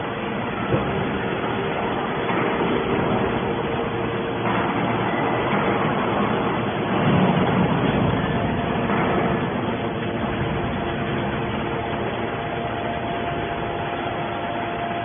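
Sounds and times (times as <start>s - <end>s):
baler machine running: 0.0s - 15.0s
faint steady whine: 0.0s - 15.0s.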